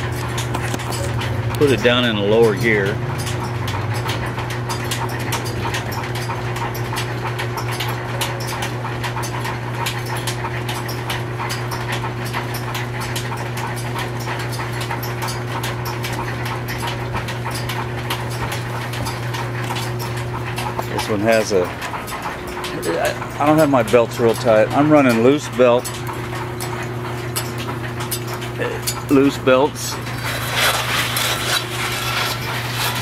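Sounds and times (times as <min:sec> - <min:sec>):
flat belts ticking: 0:00.0 - 0:33.0
machine steady hum: 0:00.0 - 0:33.0.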